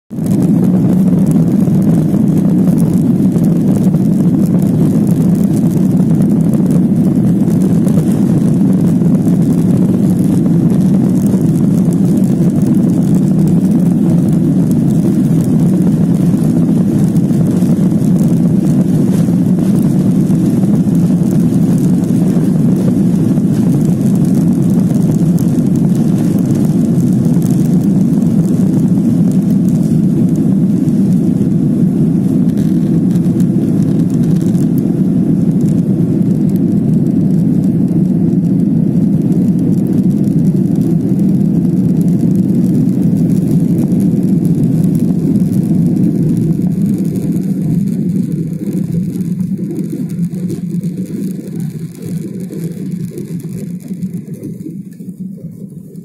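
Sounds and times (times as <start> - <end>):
jet engines rumbling in cabin: 0.1 - 56.0.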